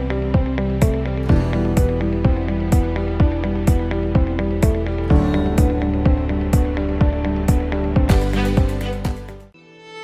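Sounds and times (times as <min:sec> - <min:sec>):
electronic music beat: 0:00.0 - 0:09.5.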